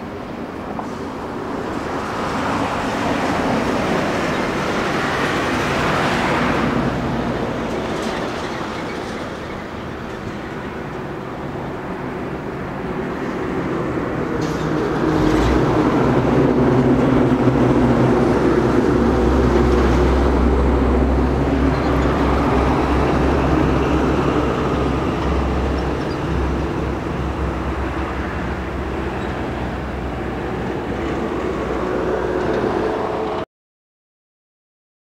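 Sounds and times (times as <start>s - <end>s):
diesel engine rumble: 0.0s - 33.4s.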